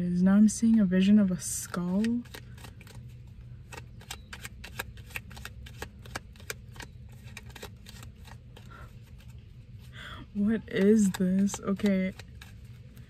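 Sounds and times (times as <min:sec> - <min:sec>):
steady low hum: 0:00.0 - 0:13.0
cards being shuffled by hand: 0:00.4 - 0:13.0.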